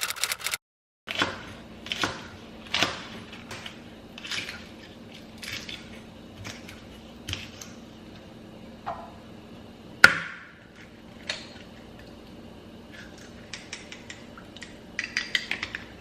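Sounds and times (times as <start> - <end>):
steady low hum: 1.1 - 16.0.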